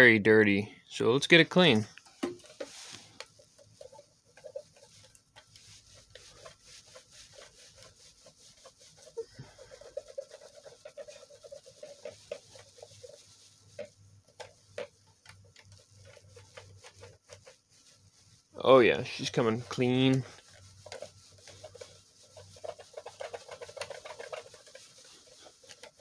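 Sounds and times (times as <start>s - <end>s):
cloth rubbing plastic case: 1.4s - 26.0s.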